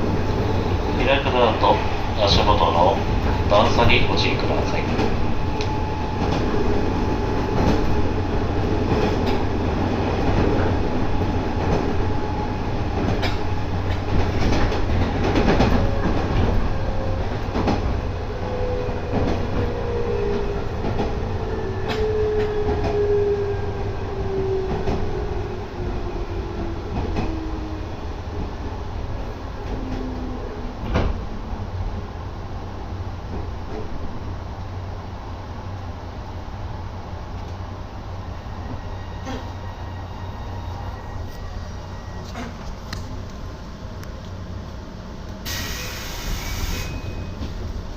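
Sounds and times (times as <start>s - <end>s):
train running rumble: 0.0s - 39.6s.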